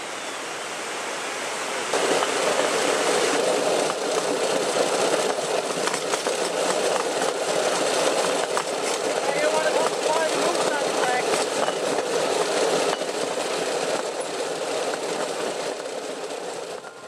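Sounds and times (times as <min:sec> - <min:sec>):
wheels rolling on rails: 0:01.8 - 0:17.0
small gasoline engine running: 0:02.0 - 0:17.0.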